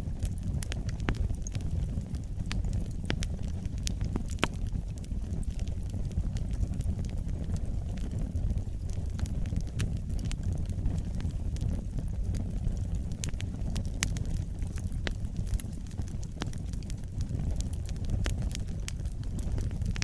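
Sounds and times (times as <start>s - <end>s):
burning wood crackling and popping: 0.0s - 20.0s
wood fire rumbling: 0.0s - 20.0s.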